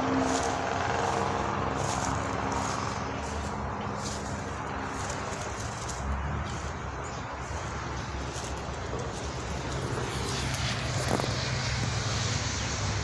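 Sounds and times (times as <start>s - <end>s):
distant traffic noise: 0.0s - 13.0s
passing motor humming: 0.0s - 13.0s.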